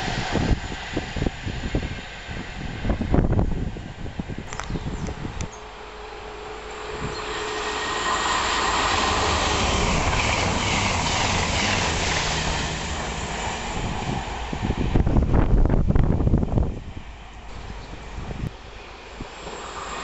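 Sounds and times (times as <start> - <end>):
high-speed train rushing past: 0.0 - 20.0.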